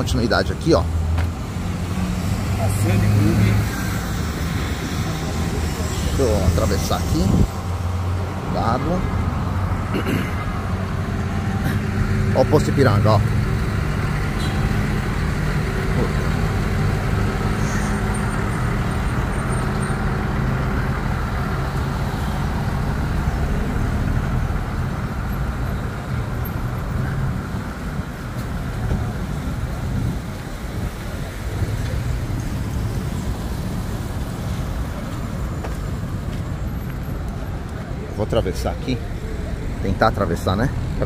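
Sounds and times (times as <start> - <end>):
road noise: 0.0 - 41.0
vehicles passing: 0.0 - 41.0.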